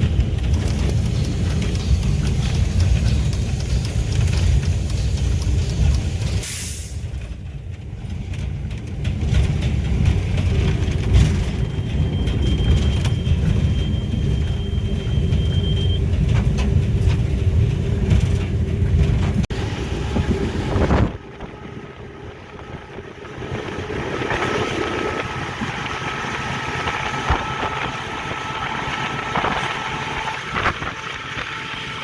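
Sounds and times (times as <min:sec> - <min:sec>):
diesel locomotive engine rumble: 0:00.0 - 0:32.0.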